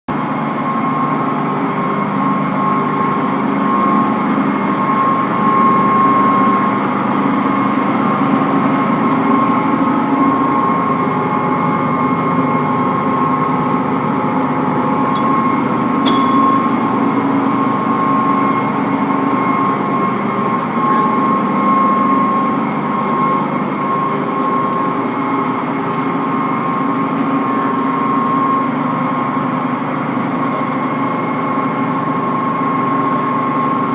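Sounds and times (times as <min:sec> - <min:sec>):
lathe running with high whine: 0:00.1 - 0:33.9.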